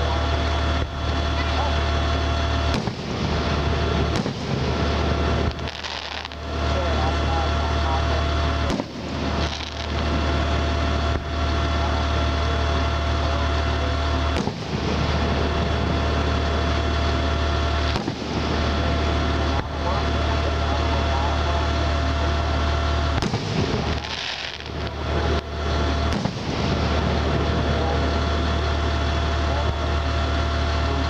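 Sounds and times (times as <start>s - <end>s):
engine-like drone: 0.0s - 31.0s
fireworks bursting: 0.2s - 12.9s, 13.5s - 21.0s, 22.5s - 30.6s.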